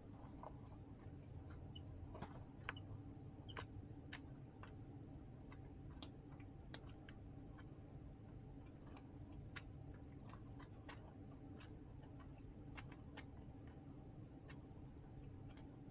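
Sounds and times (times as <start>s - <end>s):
chicks pecking ticks: 0.0s - 15.9s
steady low hum: 0.0s - 15.9s.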